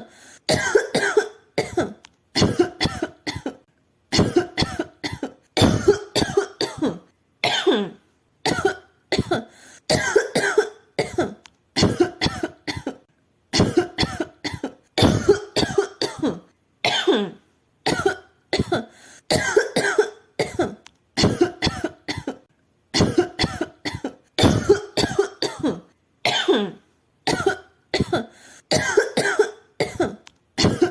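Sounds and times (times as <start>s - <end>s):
woman coughing: 0.5s - 30.9s.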